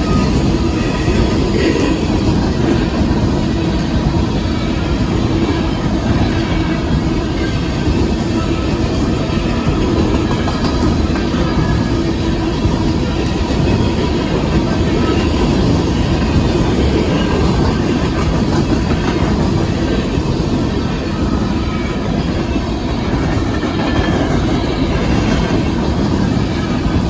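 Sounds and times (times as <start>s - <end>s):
train wheels over rail joints: 0.0s - 27.0s.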